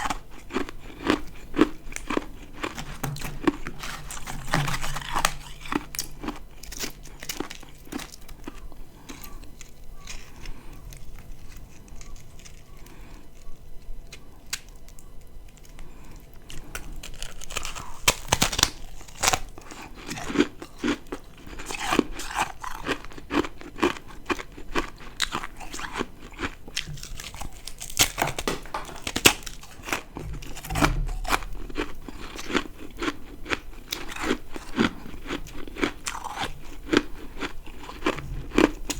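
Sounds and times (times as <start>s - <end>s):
chewing ice crunching: 0.0s - 38.9s.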